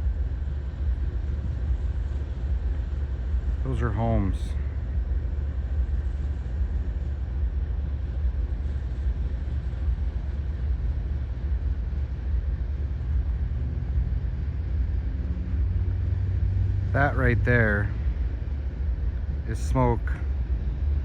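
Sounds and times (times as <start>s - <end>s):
distant low engine rumble: 0.0s - 21.0s.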